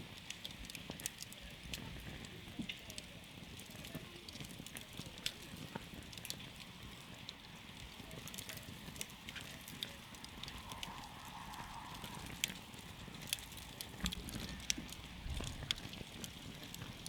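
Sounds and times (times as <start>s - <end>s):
campfire crackling and popping: 0.0s - 17.0s
hiss and rumble of flames: 0.0s - 17.0s.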